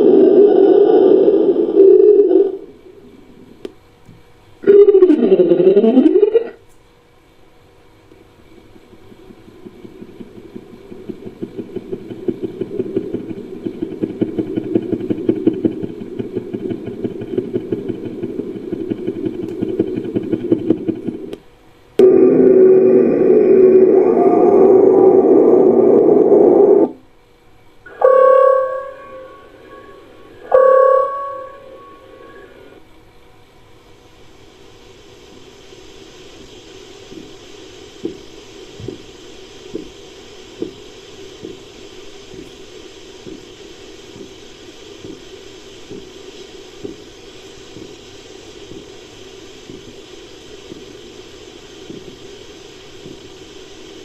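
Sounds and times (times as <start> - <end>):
steady low hiss: 0.0 - 54.0.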